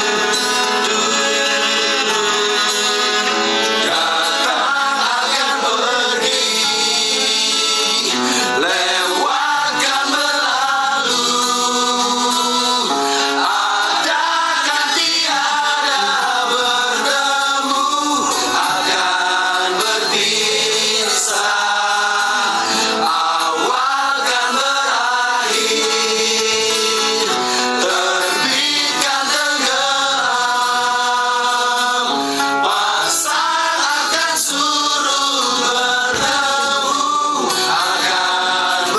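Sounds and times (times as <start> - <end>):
song with singing and instruments: 0.0 - 38.9.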